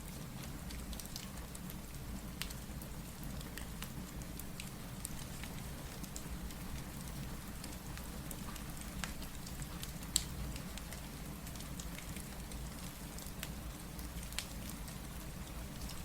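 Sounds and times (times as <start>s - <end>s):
steady rain: 0.0s - 16.0s
wood fire crackling: 0.1s - 16.0s.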